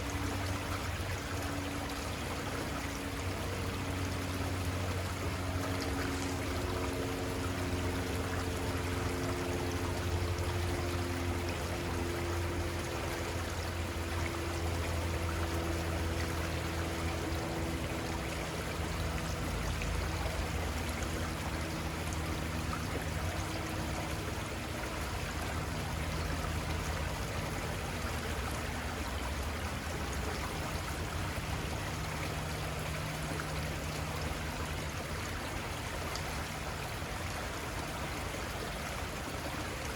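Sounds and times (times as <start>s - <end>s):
river running water: 0.0s - 39.9s.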